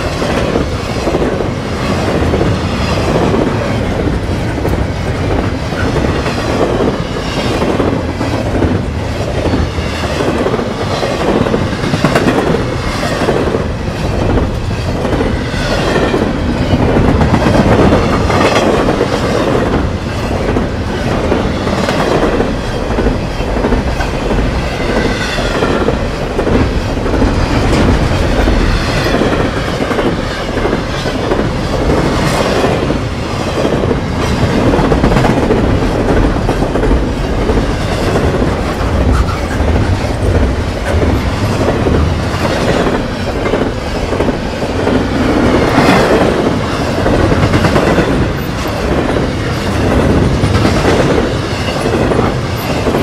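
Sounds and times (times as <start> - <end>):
steel wheels clattering on rails: 0.0 - 53.0
train cars rumbling and rattling: 0.0 - 53.0.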